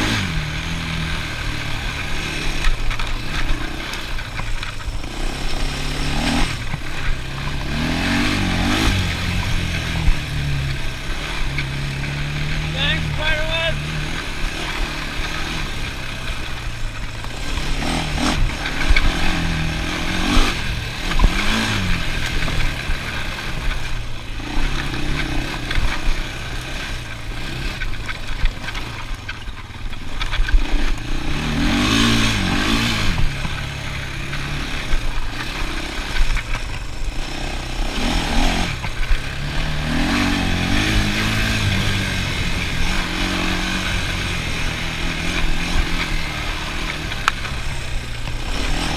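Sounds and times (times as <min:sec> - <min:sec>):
atv engine revving: 0:00.0 - 0:48.9.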